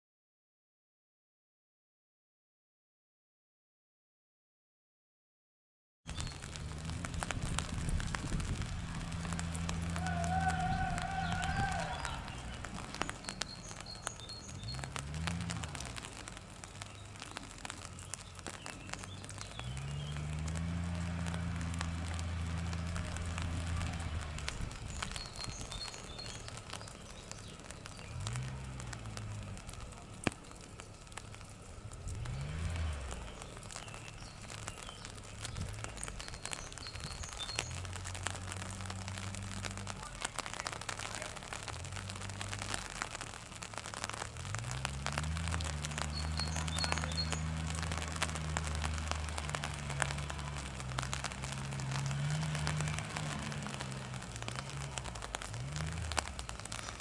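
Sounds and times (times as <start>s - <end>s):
rain pattering on an umbrella: 6.1s - 57.0s.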